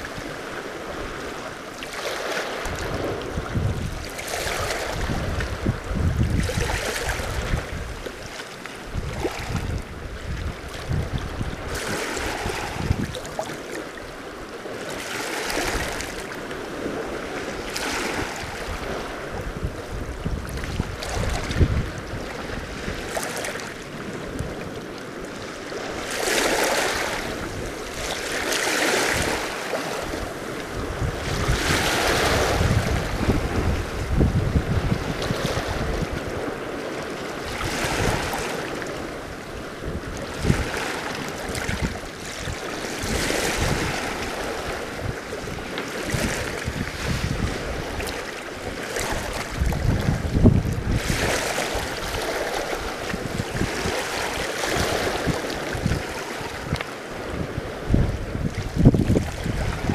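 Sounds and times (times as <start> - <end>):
waves washing against rocks: 0.0 - 59.9
wind buffeting microphone: 2.4 - 14.4, 15.4 - 59.9.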